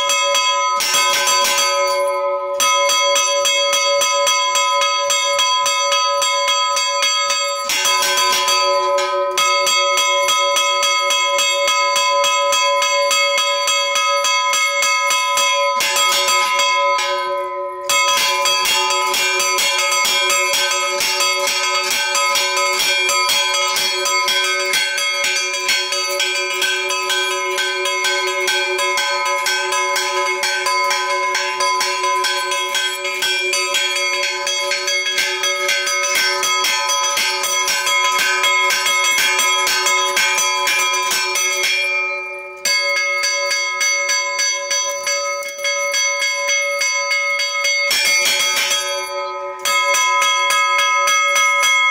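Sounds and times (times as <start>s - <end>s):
church bells pealing: 0.0s - 51.9s.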